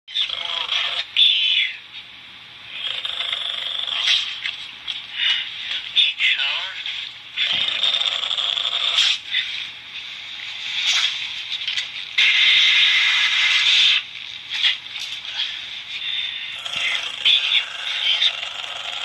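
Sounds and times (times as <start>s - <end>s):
static-like electronic noise: 0.1s - 19.0s.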